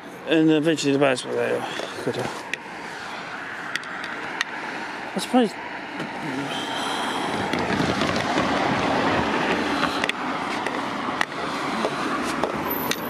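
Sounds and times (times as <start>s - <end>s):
tyre noise on wet road: 0.5s - 13.0s.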